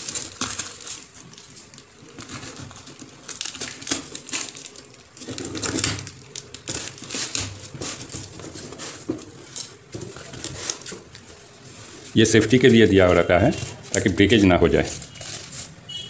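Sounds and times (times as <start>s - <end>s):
packing tape tearing: 0.0s - 11.4s, 13.4s - 16.0s
cardboard crinkling and rustling: 0.0s - 16.0s.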